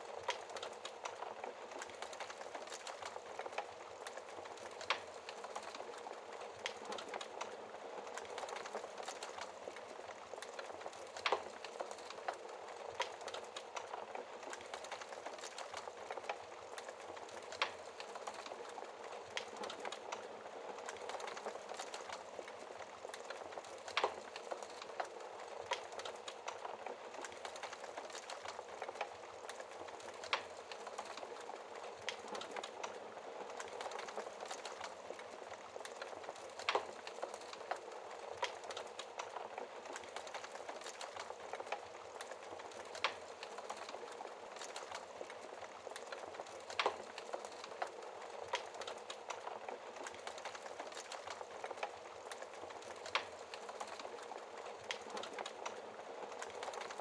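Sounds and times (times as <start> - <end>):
fire crackles and pops: 0.0 - 57.0
hiss of burning wood: 0.1 - 57.0.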